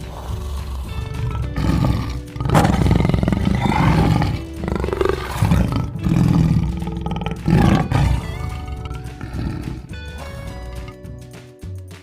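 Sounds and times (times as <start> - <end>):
leopard growling: 0.0 - 11.1
background music: 0.0 - 12.0.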